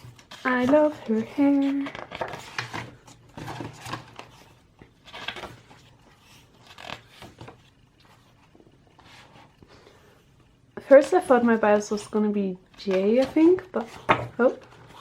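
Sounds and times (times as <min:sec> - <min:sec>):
photobook pages turning: 0:00.0 - 0:10.2, 0:10.8 - 0:15.0.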